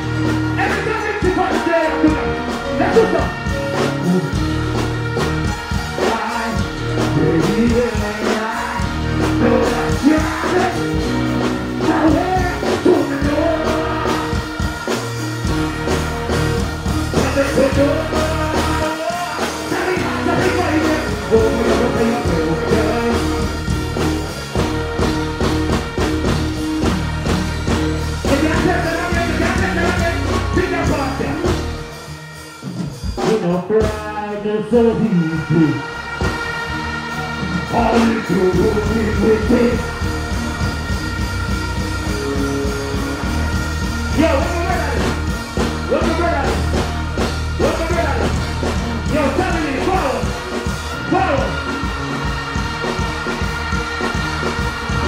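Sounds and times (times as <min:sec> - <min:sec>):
backing track with steady beat: 0:00.0 - 0:55.0.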